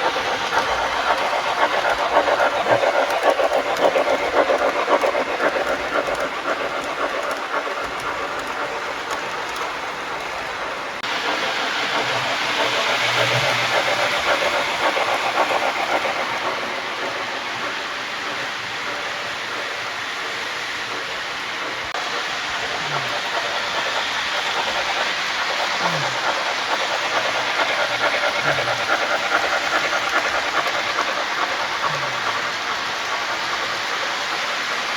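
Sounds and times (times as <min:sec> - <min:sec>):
steam hiss: 0:00.0 - 0:34.9
steam locomotive chuffing: 0:00.0 - 0:34.9
wheels rumbling and clicking on track: 0:00.0 - 0:34.9.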